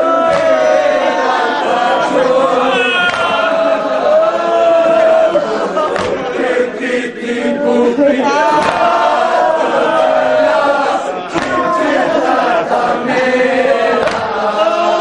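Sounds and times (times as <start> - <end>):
men chanting a mourning lament: 0.0 - 15.0.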